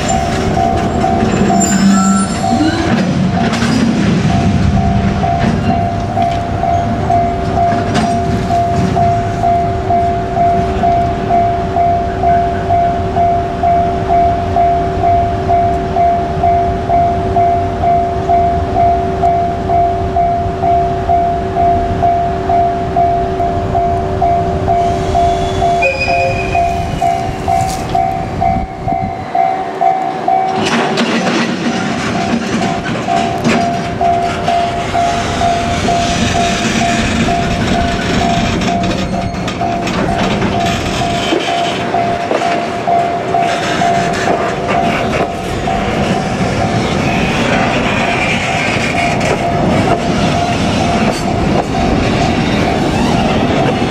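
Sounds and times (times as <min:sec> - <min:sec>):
train wheels clattering on rails: 0:00.0 - 0:19.4, 0:24.6 - 0:53.9
level crossing alarm dinging: 0:00.0 - 0:47.4, 0:48.8 - 0:53.9.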